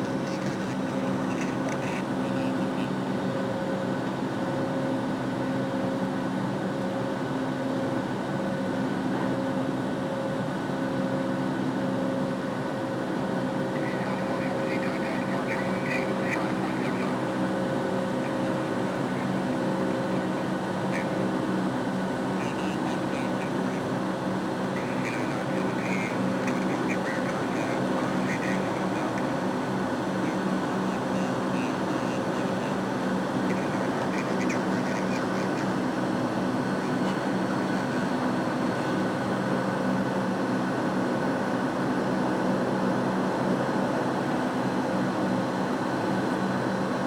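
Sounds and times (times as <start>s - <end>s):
jet engine cabin drone: 0.0s - 47.0s.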